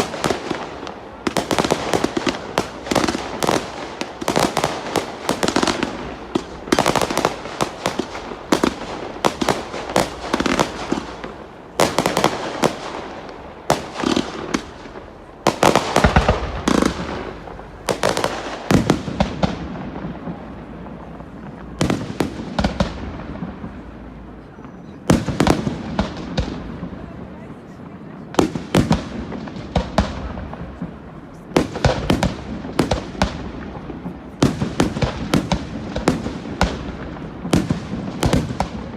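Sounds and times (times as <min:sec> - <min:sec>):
deep fireworks booms: 0:00.0 - 0:38.9
fireworks bursts and crackling: 0:00.0 - 0:38.9.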